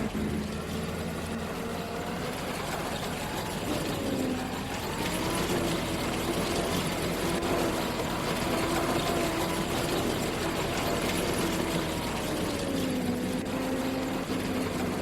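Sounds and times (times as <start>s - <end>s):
machinery engine running: 0.0s - 15.0s.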